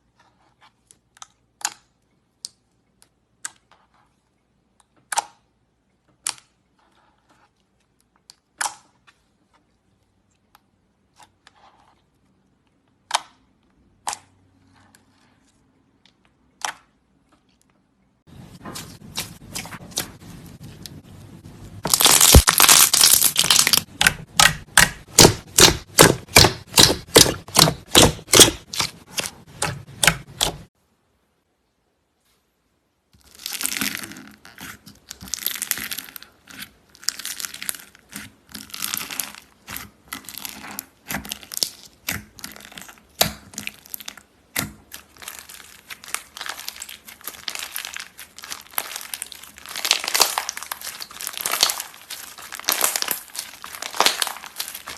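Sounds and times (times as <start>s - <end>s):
slime squelching: 0.2s - 30.7s, 33.2s - 54.9s.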